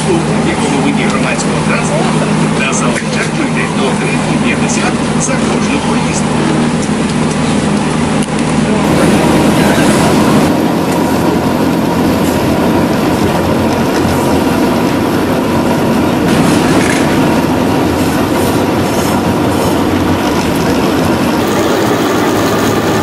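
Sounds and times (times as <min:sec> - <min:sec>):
tram wheels rumbling on track: 0:00.0 - 0:23.0.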